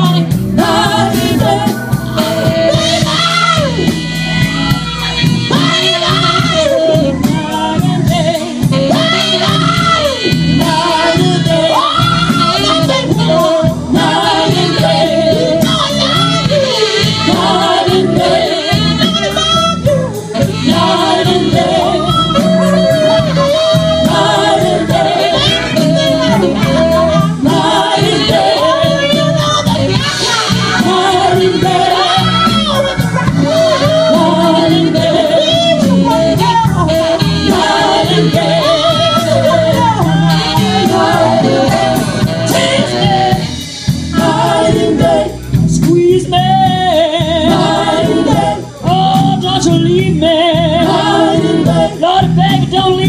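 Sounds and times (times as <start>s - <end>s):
backing singers: 0.0s - 53.0s
bass guitar: 0.0s - 53.0s
woman singing lead with vibrato: 0.0s - 53.0s.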